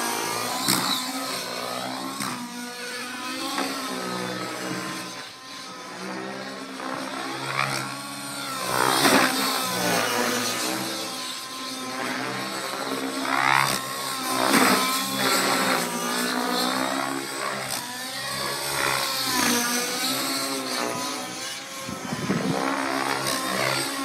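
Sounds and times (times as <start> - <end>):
model helicopter engine: 0.0 - 24.0
rotor blades: 0.0 - 24.0.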